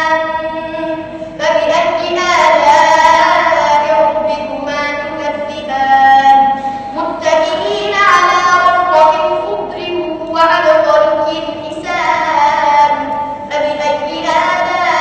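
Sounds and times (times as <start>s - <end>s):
child reciting melodically: 0.0s - 15.0s.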